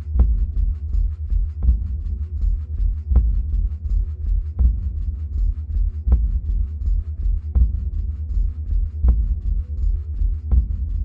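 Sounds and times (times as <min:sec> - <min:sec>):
slow bass-heavy electronic music: 0:00.0 - 0:11.0.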